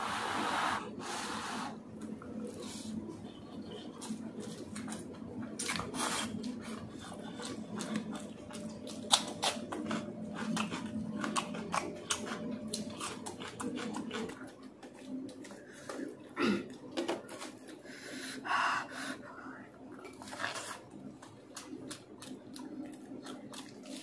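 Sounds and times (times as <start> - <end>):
low steady hum: 0.0 - 24.0
man chewing noodles: 0.4 - 18.4, 19.0 - 24.0.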